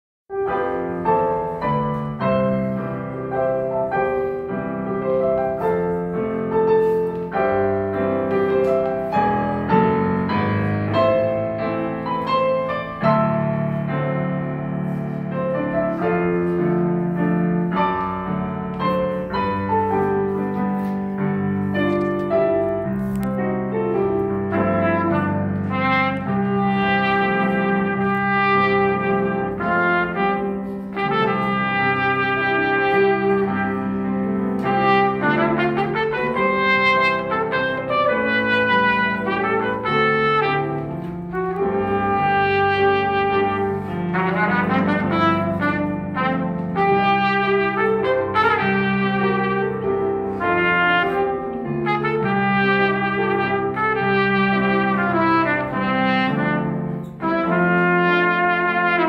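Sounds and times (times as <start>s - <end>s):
piano playing chords: 0.3s - 59.0s
trumpet: 0.3s - 59.0s.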